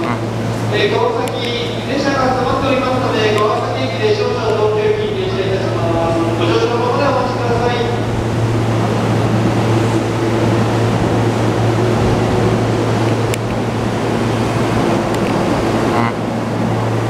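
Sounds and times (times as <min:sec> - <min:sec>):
train equipment hum and hiss: 0:00.0 - 0:17.0.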